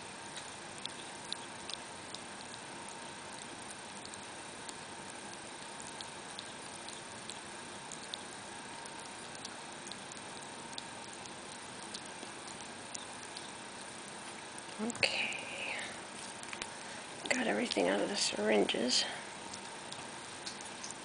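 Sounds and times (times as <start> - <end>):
faint steady hiss: 0.0 - 21.0
ferret licking and lapping: 0.0 - 21.0.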